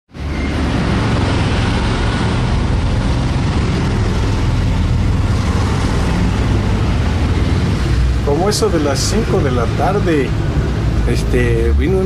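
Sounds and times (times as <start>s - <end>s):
loud road traffic rumble: 0.1s - 12.0s.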